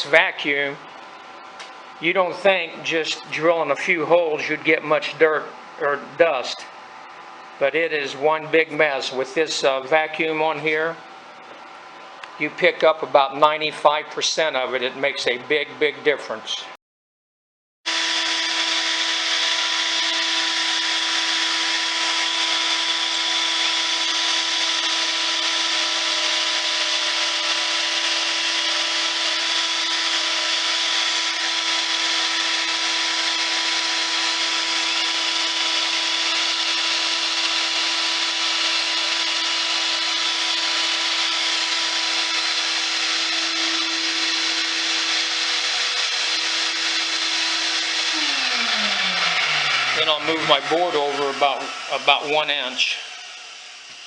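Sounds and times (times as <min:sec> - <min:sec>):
shop vacuum running: 0:00.0 - 0:16.6, 0:17.9 - 0:54.0.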